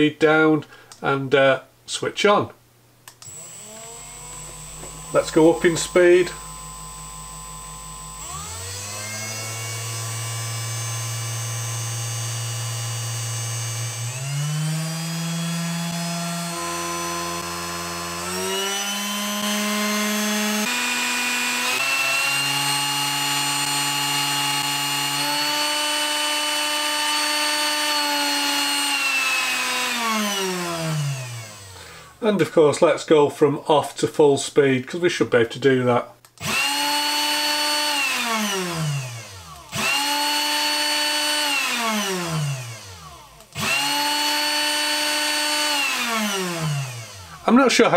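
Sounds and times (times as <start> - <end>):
spindle motor whirring: 3.2 - 31.8, 36.4 - 47.4.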